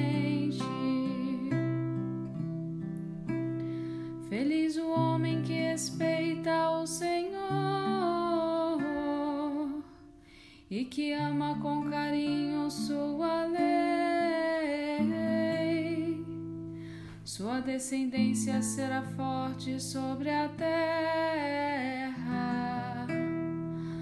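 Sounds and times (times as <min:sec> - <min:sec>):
person singing a psalm: 0:00.0 - 0:01.7, 0:04.3 - 0:10.0, 0:10.7 - 0:16.3, 0:17.3 - 0:24.0.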